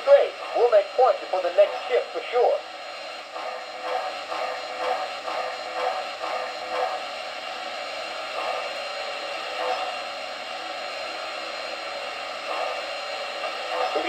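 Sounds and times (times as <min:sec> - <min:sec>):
model train steam hiss: 0:00.0 - 0:14.0.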